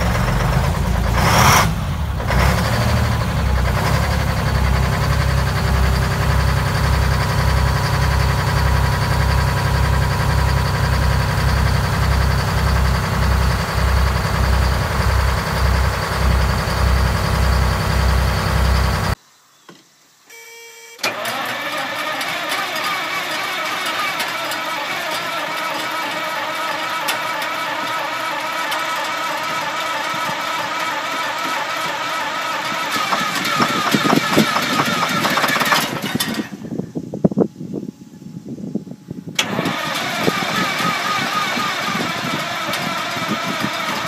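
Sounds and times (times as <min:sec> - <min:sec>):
another diesel engine: 0:00.0 - 0:19.2, 0:21.0 - 0:37.3, 0:38.9 - 0:44.0
diesel engine idling: 0:00.0 - 0:19.2, 0:21.0 - 0:37.1, 0:39.3 - 0:44.0
loud engine burst: 0:00.0 - 0:19.2, 0:21.0 - 0:36.8, 0:39.4 - 0:44.0.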